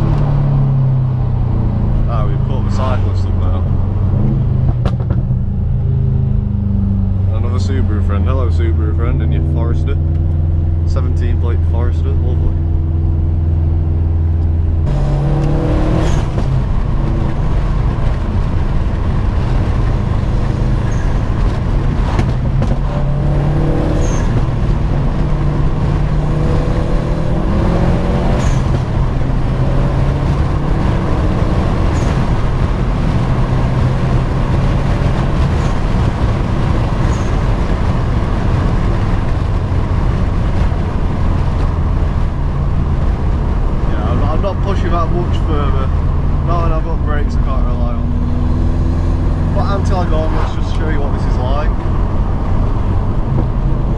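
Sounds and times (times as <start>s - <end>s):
car engine revving through gears: 0.0s - 53.9s
road noise inside car: 0.0s - 53.9s.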